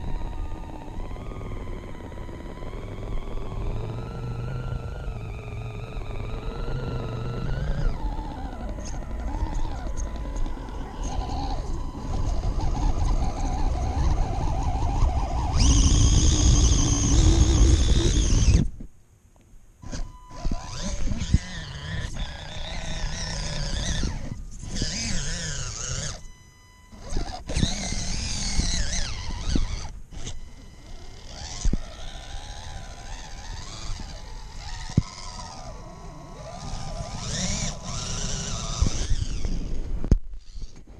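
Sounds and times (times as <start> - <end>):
electric toy car motor whining: 0.0 - 18.7, 19.8 - 40.9.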